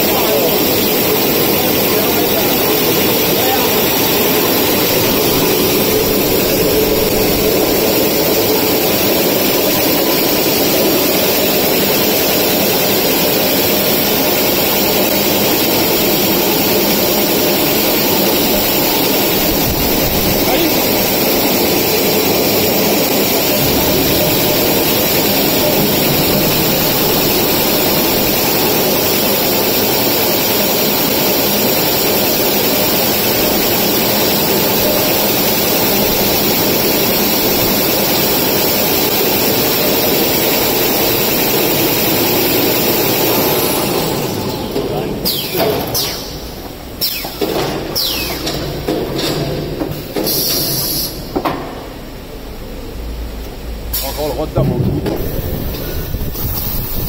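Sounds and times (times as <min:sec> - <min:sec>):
industrial rewinding machine running: 0:00.0 - 0:51.3, 0:52.6 - 0:57.0.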